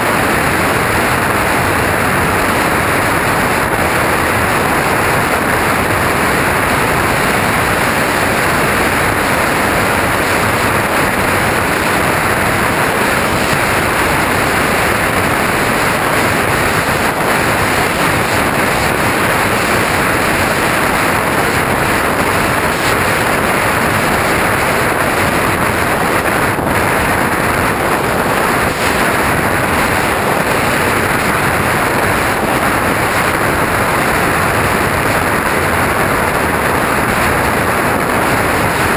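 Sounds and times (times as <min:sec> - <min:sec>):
rushing airflow over camera: 0:00.0 - 0:38.9.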